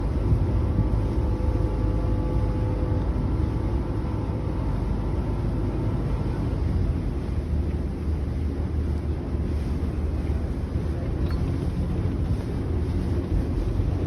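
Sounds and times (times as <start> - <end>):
ferry engine rumbling: 0.0 - 14.0.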